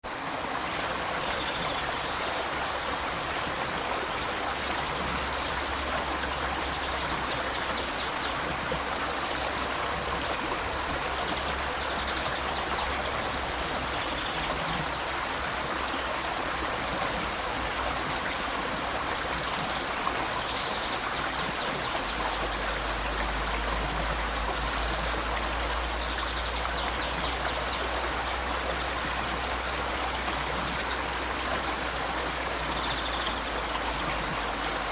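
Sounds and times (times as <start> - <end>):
river water flowing: 0.0 - 34.9.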